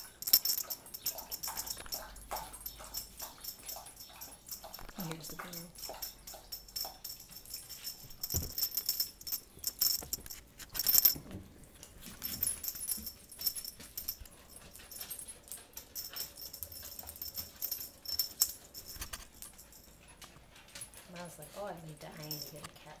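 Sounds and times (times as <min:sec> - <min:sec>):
small bell jingling: 0:00.0 - 0:23.0.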